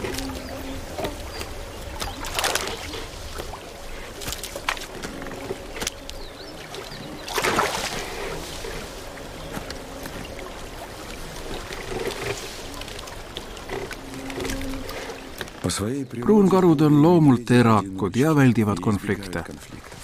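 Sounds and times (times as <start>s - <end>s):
water lapping and splashing: 0.0s - 20.0s.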